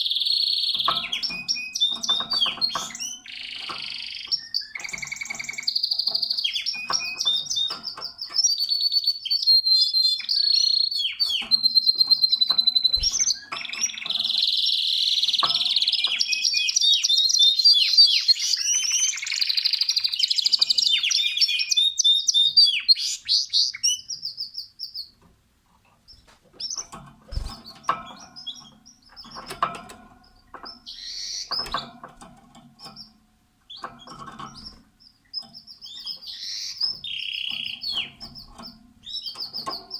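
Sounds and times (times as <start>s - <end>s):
canary chirps and calls: 0.0s - 25.2s, 26.0s - 39.9s
canary singing trills: 0.0s - 25.2s, 26.0s - 39.9s.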